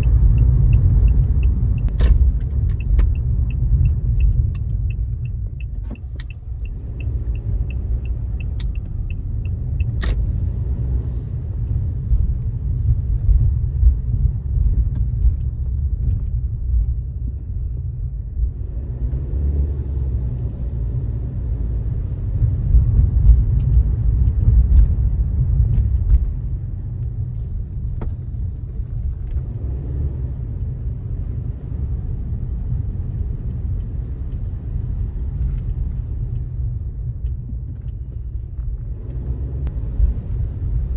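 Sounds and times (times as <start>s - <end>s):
car road rumble from inside: 0.0s - 40.9s.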